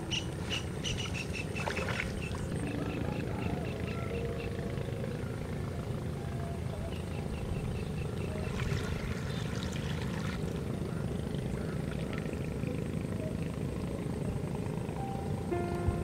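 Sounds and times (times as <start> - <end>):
wading through shallow water: 0.0 - 15.0.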